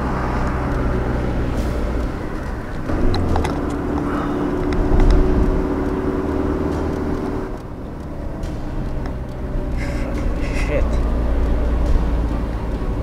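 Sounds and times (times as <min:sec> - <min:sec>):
car engine hum: 0:00.0 - 0:13.0
road noise inside car: 0:00.0 - 0:13.0
faint clicks: 0:00.4 - 0:13.0.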